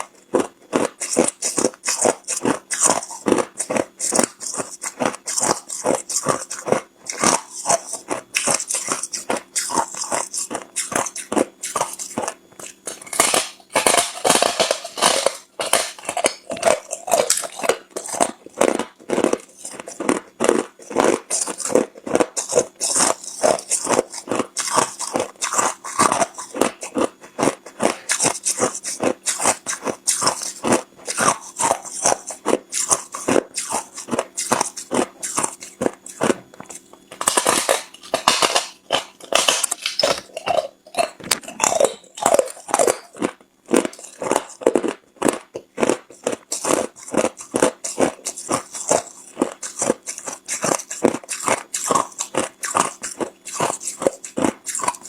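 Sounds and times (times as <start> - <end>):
ice crunching being chewed: 0.0 - 55.0.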